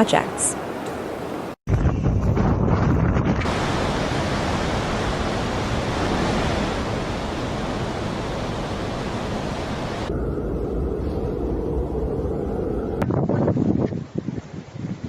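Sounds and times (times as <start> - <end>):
wind blowing on microphone: 0.8 - 15.0.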